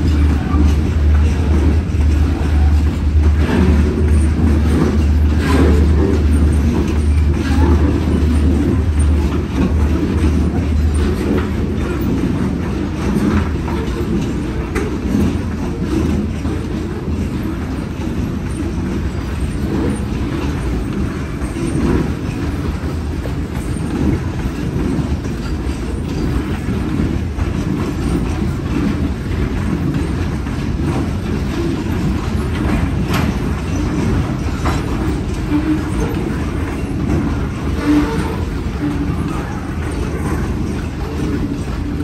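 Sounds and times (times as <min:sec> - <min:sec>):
steel wheels rumbling on rail: 0:00.0 - 0:42.0
train cars clanking: 0:00.0 - 0:42.0.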